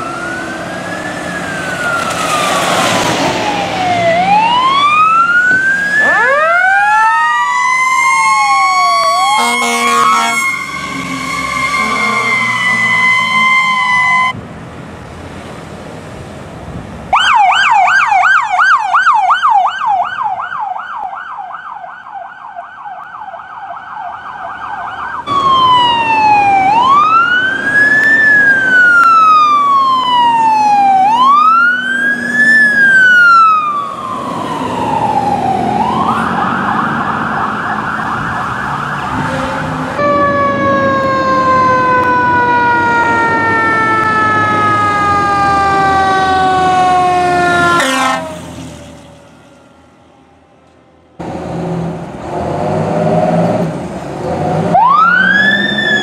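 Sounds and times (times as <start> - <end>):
fast yelp siren: 0.0 - 14.4, 17.1 - 48.5, 54.8 - 56.0
wailing sirens: 0.0 - 14.4, 17.1 - 52.0, 52.6 - 56.0.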